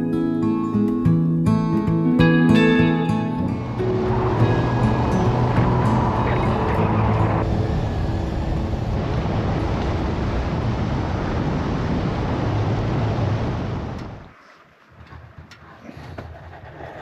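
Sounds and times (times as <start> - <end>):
road and tyre noise: 2.6 - 17.0
vehicle engine hum: 3.0 - 17.0.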